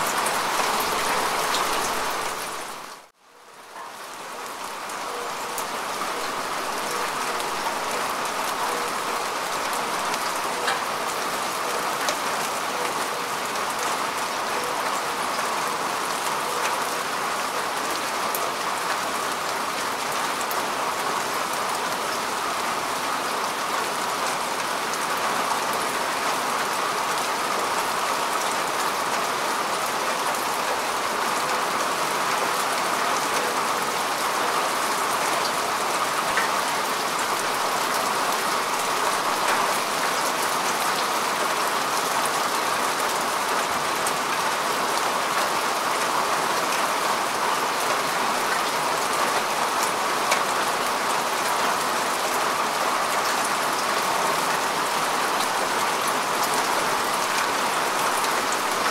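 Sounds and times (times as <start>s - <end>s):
rain falling on grass: 0.0s - 58.9s.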